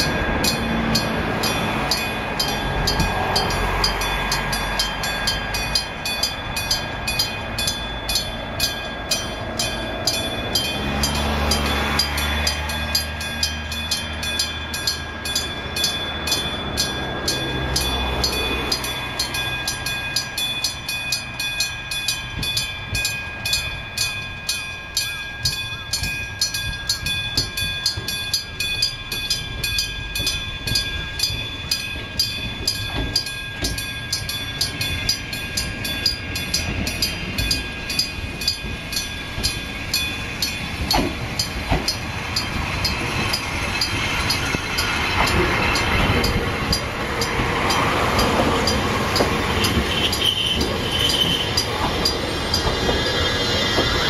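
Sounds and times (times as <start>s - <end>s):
level crossing bell ringing: 0.0s - 53.4s
electric train running: 0.0s - 54.0s.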